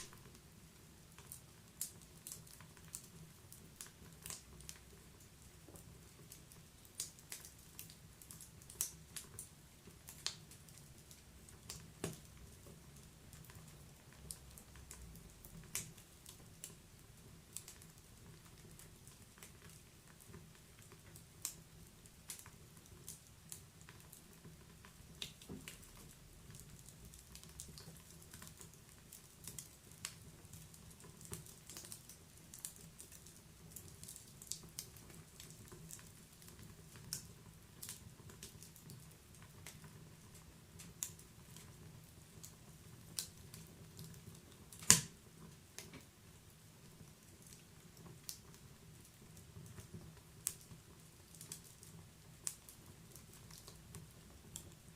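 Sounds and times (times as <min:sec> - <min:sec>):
low rumble of burning: 0:00.0 - 0:54.9
wood fire crackling and popping: 0:00.0 - 0:54.9.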